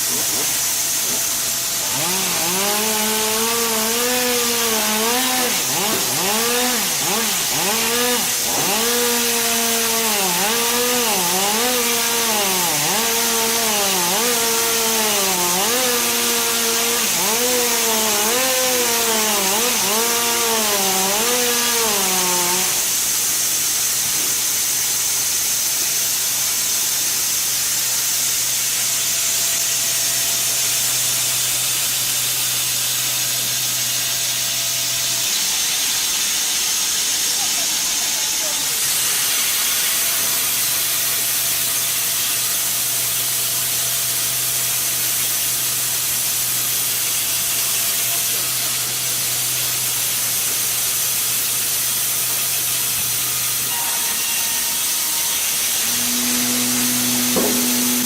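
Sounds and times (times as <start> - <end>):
power saw cutting wood: 0.0 - 58.0.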